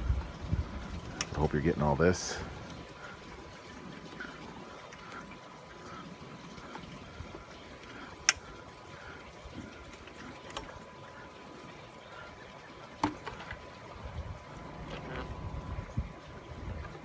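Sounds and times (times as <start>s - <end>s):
water trickling through hose: 0.0s - 17.0s.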